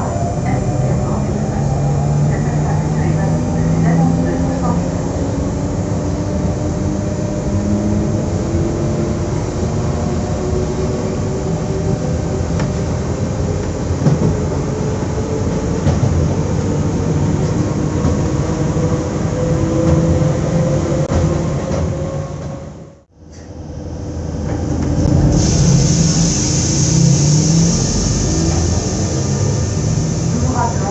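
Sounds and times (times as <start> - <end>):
train equipment humming: 0.0 - 30.9.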